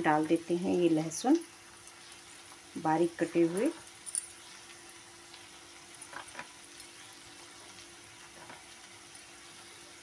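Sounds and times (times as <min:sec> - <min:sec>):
onions and garlic sizzling in oil: 0:00.0 - 0:10.0.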